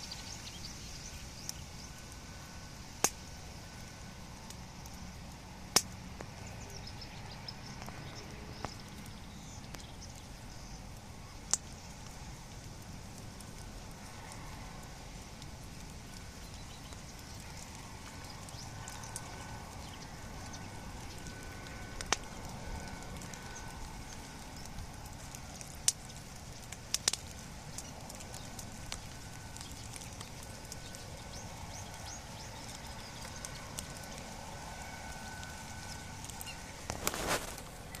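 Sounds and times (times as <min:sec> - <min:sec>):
bonfire crackling and hissing: 0:00.0 - 0:38.0
fire pops: 0:02.9 - 0:07.0, 0:07.6 - 0:38.0.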